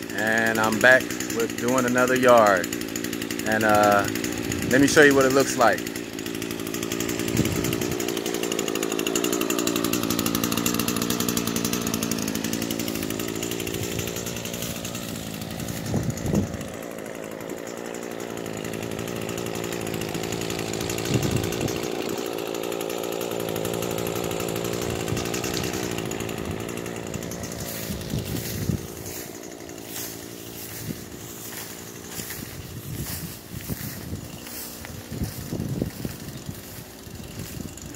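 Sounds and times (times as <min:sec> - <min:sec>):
small gasoline engine running: 0:00.0 - 0:37.9.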